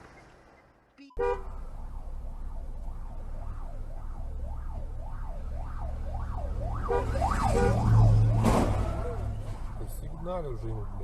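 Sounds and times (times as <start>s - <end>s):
low vehicle engine rumble: 0.0s - 11.0s
buzzy second siren tone: 1.2s - 11.0s
emergency siren yelping: 1.4s - 11.0s.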